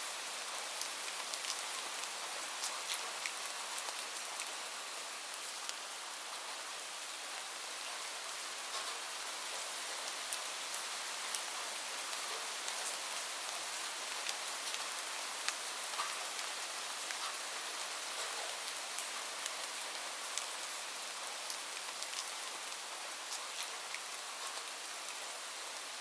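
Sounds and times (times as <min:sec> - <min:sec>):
rain falling on a surface: 0:00.0 - 0:26.0.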